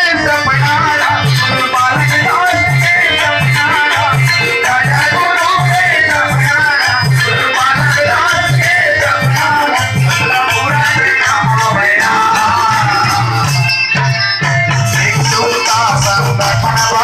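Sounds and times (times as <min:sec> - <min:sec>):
harmonium: 0:00.0 - 0:17.0
men singing: 0:00.0 - 0:17.0
tabla beat: 0:00.0 - 0:17.0.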